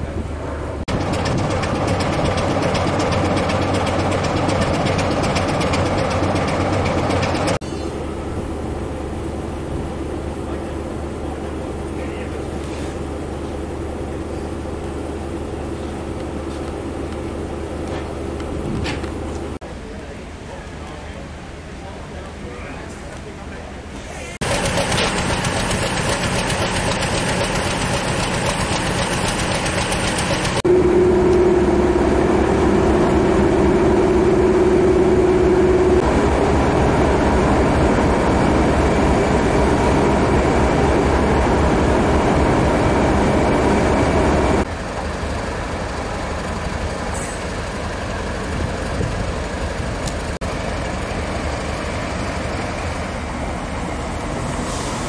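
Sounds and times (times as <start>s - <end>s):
diesel locomotive with coaches: 0.0s - 55.0s
diesel multiple unit train: 0.0s - 55.0s
locomotive steady hum: 0.0s - 55.0s.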